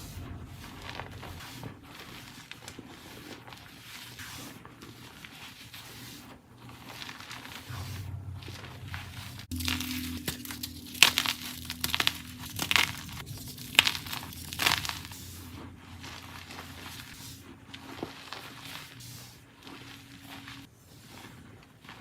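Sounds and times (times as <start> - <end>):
chalk crunching and crumbling: 0.0 - 22.0.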